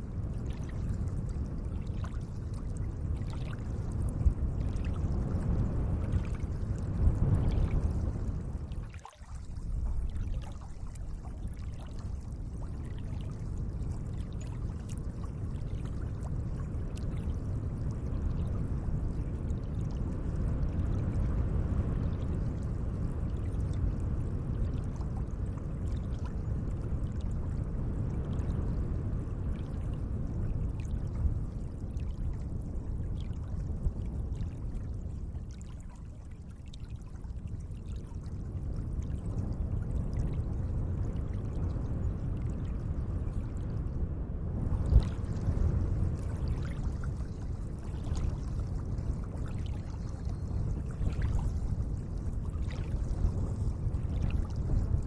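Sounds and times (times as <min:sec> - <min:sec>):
gentle running water trickling: 0:00.0 - 0:43.9, 0:44.6 - 0:55.0.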